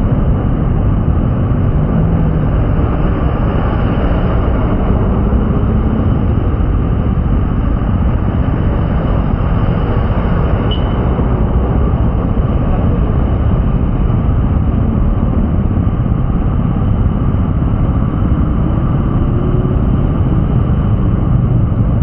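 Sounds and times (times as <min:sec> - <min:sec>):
road and rain noise: 0:00.0 - 0:22.0
vehicle engine hum: 0:00.0 - 0:22.0.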